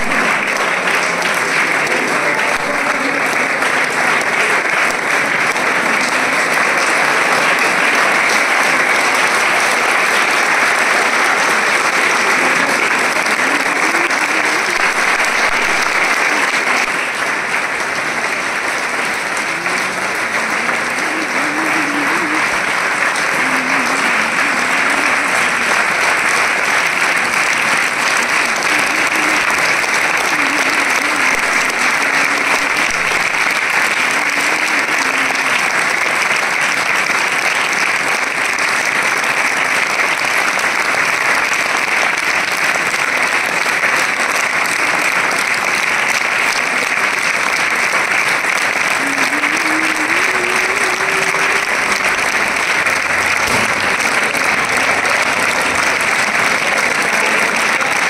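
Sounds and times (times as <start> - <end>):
people clapping: 0.0 - 58.0.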